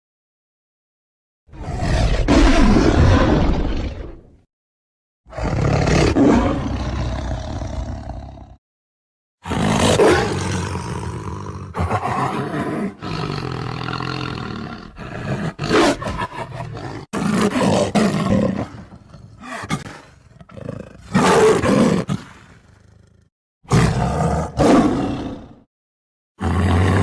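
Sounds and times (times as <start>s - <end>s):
tiger roaring and growling: 1.5s - 4.4s, 5.3s - 8.6s, 9.4s - 25.7s, 26.4s - 27.0s.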